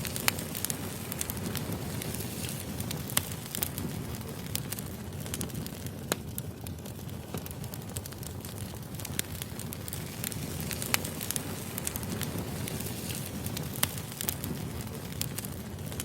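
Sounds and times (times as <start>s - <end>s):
firewood burning and crackling: 0.0s - 16.0s.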